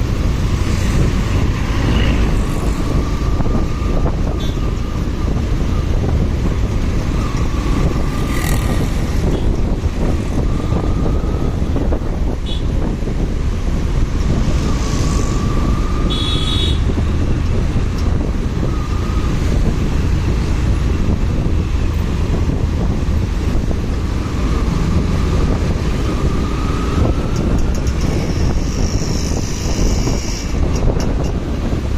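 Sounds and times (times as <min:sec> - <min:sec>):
road traffic: 0:00.0 - 0:31.9
wind rushing over microphone: 0:00.0 - 0:31.9.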